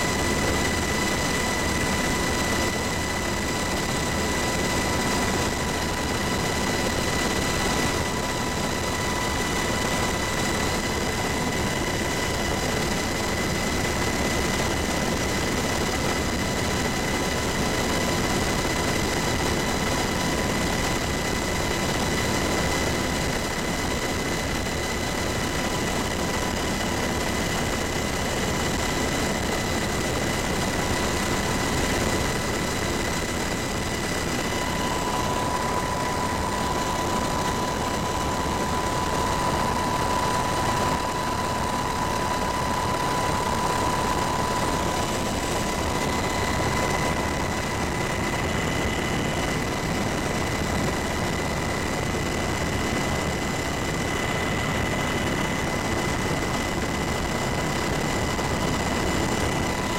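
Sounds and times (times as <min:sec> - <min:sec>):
helicopter engine and rotor noise: 0:00.0 - 0:59.9
high steady whine: 0:00.0 - 0:59.9.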